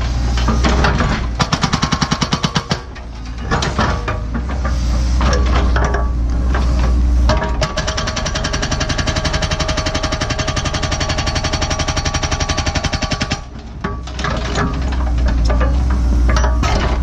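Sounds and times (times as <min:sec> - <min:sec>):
diesel engine running: 0:00.0 - 0:17.0
hydraulic hammer pounding rock: 0:00.0 - 0:17.0.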